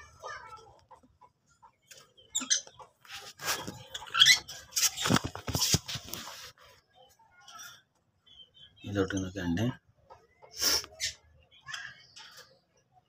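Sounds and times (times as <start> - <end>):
lovebirds chirping: 0.0 - 13.0.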